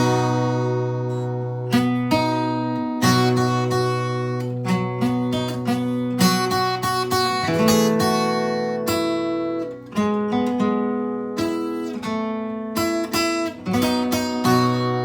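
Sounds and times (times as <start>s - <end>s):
acoustic guitar plucked melody: 0.0s - 15.0s.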